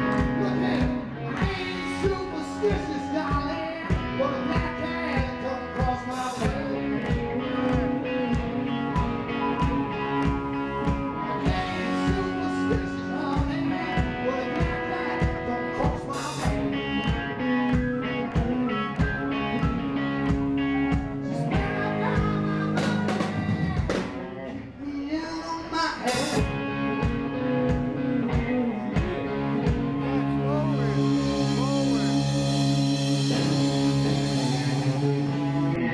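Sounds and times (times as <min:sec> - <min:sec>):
drum kit steady beat: 0:00.0 - 0:24.2, 0:26.1 - 0:30.0, 0:30.8 - 0:35.8
electric guitars: 0:00.0 - 0:35.9.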